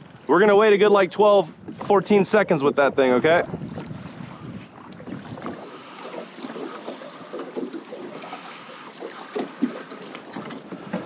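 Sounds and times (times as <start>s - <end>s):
water lapping against kayak hull: 0.0s - 11.0s.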